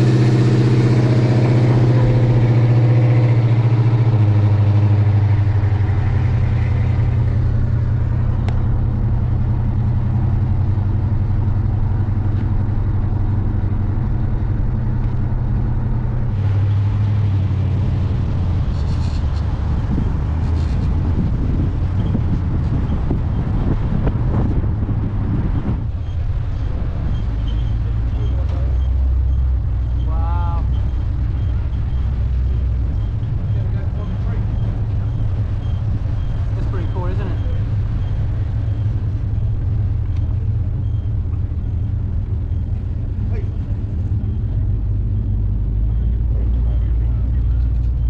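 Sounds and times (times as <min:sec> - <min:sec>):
car engine running: 0:00.0 - 0:48.0.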